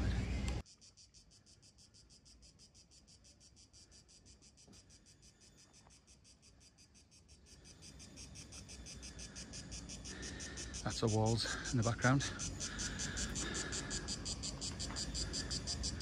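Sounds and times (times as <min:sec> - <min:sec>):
insect chirring: 0:00.6 - 0:16.0.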